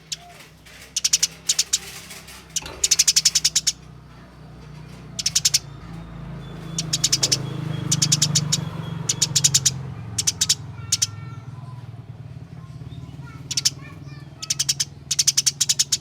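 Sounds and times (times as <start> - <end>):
sparrows chirping rapidly: 0.0 - 16.0.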